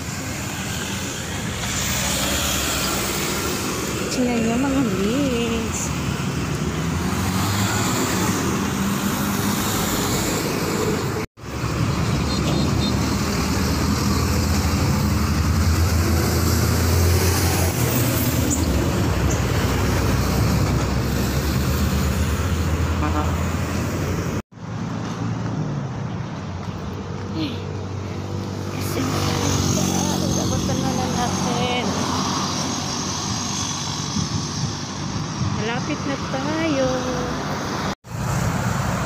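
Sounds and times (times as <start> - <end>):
road traffic rumble: 0.0 - 39.0.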